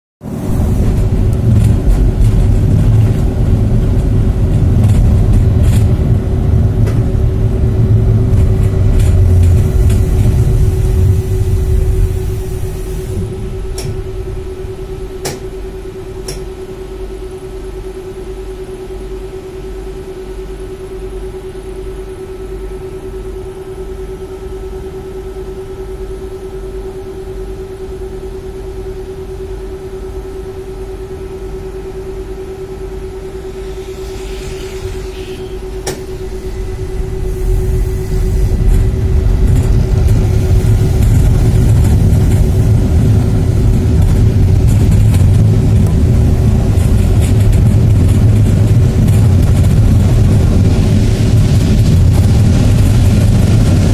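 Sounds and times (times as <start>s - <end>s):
steady hum: 0.2s - 53.9s
tram rumbling on rails: 0.2s - 53.9s.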